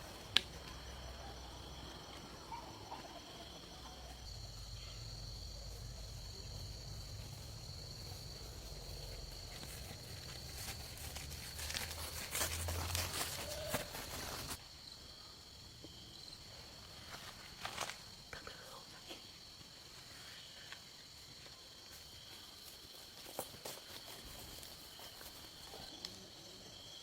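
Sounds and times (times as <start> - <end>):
high insect trill: 0.0 - 27.0.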